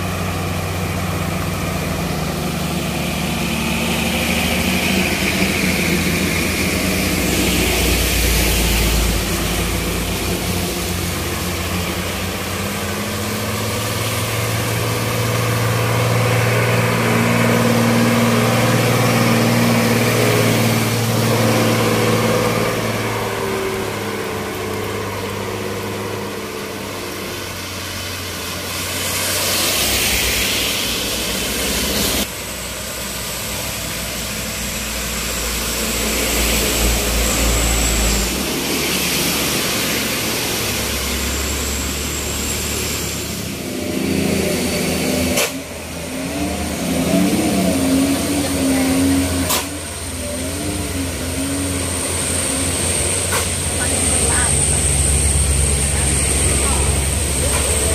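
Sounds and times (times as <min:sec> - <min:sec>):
heavy rain: 0:00.0 - 0:45.0, 0:46.0 - 0:57.9
truck diesel engines droning: 0:00.0 - 0:57.9
tyre spray on wet road: 0:00.0 - 0:57.9.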